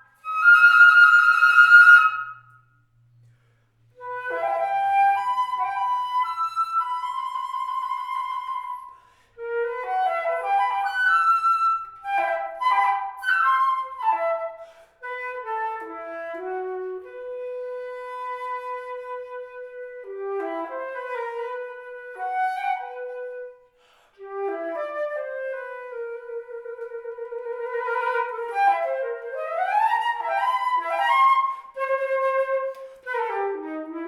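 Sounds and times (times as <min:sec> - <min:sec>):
solo flute melody: 0:00.0 - 0:34.0.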